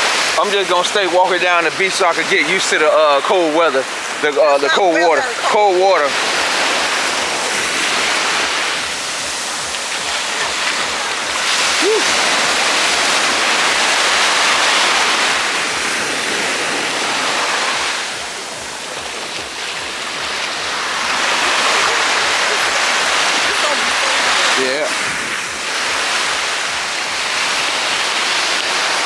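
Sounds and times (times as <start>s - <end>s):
ocean waves on beach: 0.0s - 29.0s.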